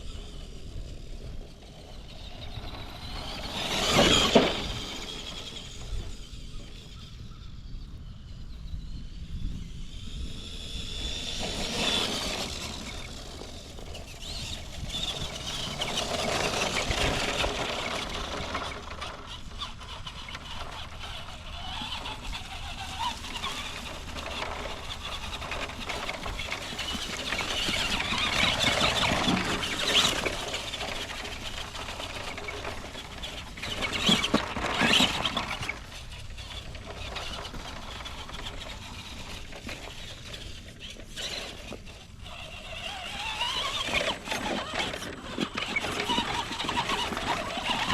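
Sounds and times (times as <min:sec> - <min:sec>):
electric rc truck motor running: 0:00.0 - 0:47.9.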